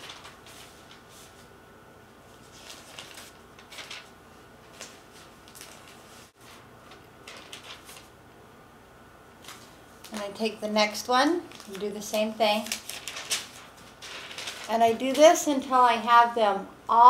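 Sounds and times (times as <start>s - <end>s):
soft paper rustles: 0.0s - 1.6s, 2.2s - 8.2s, 9.4s - 15.7s.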